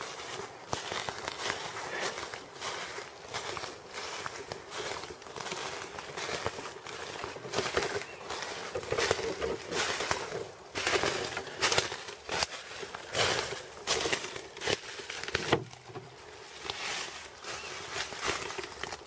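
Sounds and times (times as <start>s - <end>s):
footsteps in undergrowth: 0.0s - 19.0s.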